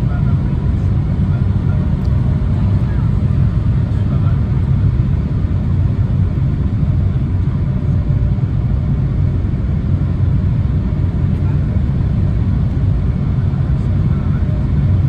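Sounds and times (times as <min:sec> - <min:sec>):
airliner cabin rumble: 0:00.0 - 0:15.0
faint steady whine: 0:00.0 - 0:15.0.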